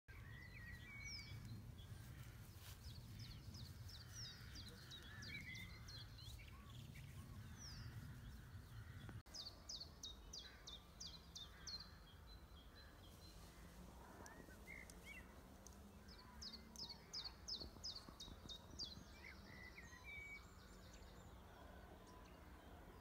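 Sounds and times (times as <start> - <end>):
small birds chirping: 0.1 - 23.0.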